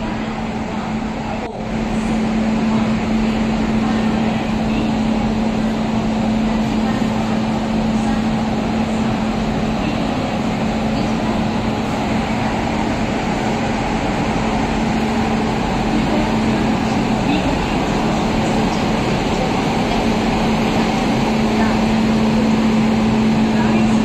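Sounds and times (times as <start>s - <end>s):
electric locomotive humming: 0.0s - 24.0s.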